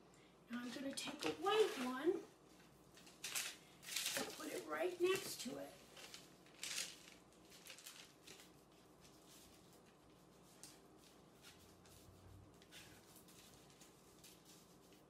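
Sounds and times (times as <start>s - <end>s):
dough rustling on parchment paper: 0.5s - 15.0s.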